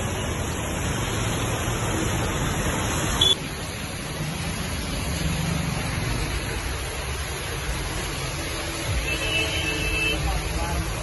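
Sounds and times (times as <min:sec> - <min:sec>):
heavy rain pouring: 0:00.0 - 0:11.0
motorbikes and traffic on wet road: 0:00.0 - 0:11.0.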